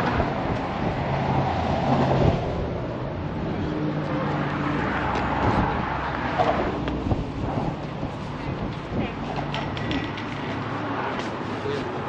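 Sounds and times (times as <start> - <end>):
road noise rushing: 0.0 - 12.0.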